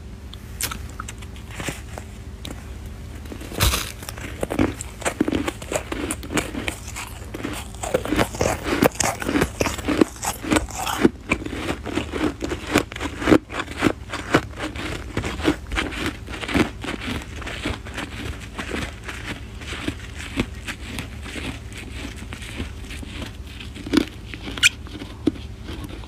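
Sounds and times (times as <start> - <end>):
chewing crunchy snow: 0.3 - 26.0.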